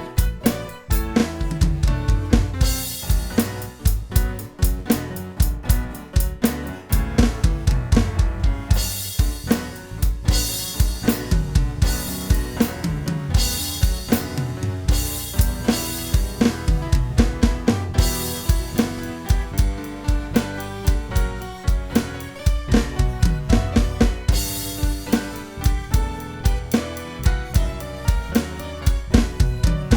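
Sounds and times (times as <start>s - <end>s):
bass line: 0.0s - 29.9s
drum kit playing a steady beat: 0.0s - 29.9s.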